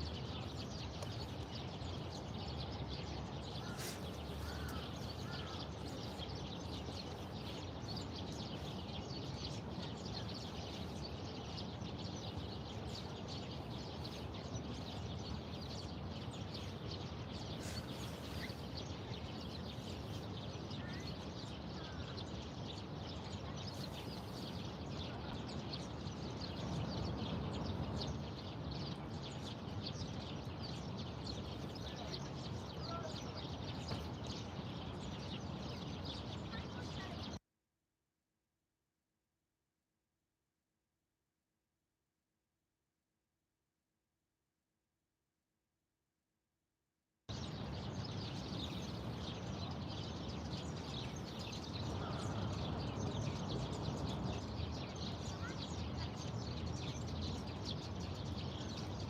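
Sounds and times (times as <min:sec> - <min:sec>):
low city rumble: 0:00.0 - 0:37.4, 0:47.3 - 0:59.0
small birds chirping: 0:00.0 - 0:37.4, 0:47.3 - 0:59.0.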